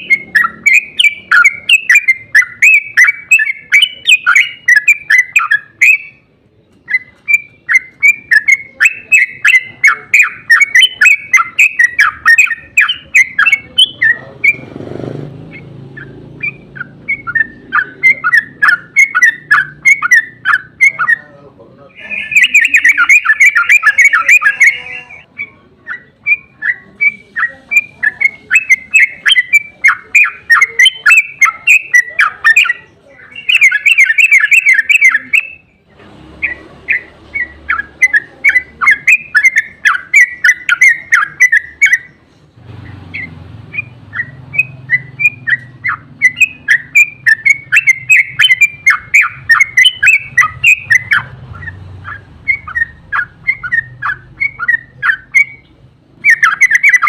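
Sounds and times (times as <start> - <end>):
rapid rattling bird trill: 0.0 - 21.3, 21.9 - 57.0
bird chattering song: 0.0 - 57.0.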